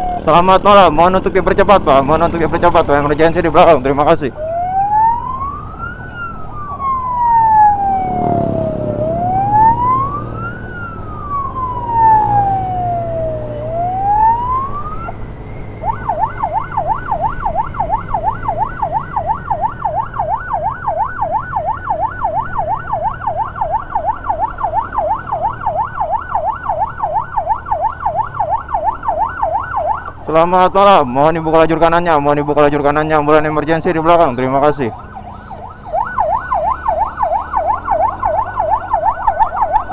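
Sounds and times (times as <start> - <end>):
electronic emergency siren: 0.0 - 0.4, 3.4 - 30.7, 31.5 - 39.9
motorcycle engine hum: 0.0 - 31.5, 32.1 - 39.9.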